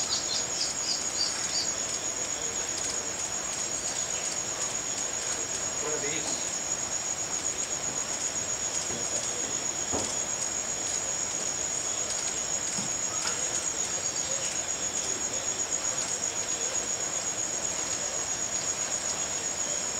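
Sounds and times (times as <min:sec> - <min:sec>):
insects pulsing trill: 0:00.0 - 0:19.9.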